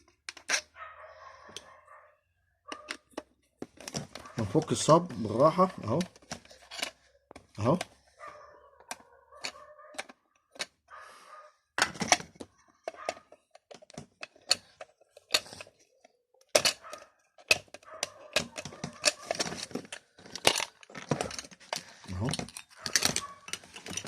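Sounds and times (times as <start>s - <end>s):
plastic housing clicking and cracking: 0.0s - 0.7s, 2.7s - 8.0s, 8.8s - 10.8s, 11.8s - 24.0s.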